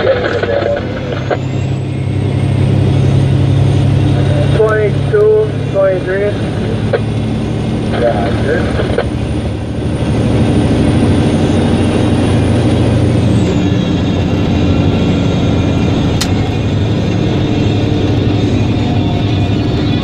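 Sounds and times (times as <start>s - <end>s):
high whine: 0.0s - 20.0s
truck diesel engine from cab: 0.0s - 20.0s.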